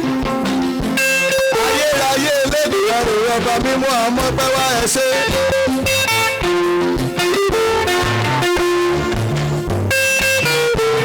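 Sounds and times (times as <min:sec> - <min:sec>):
bass guitar: 0:00.0 - 0:11.0
plucked electric guitar: 0:00.0 - 0:11.0.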